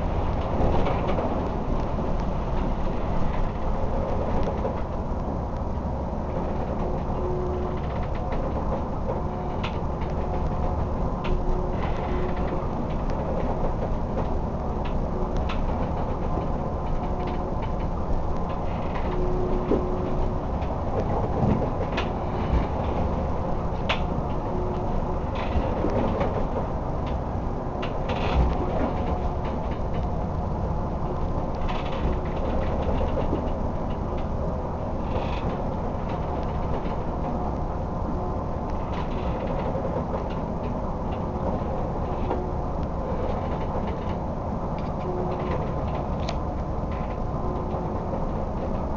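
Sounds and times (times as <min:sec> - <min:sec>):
boat and sea rumble: 0:00.0 - 0:48.9.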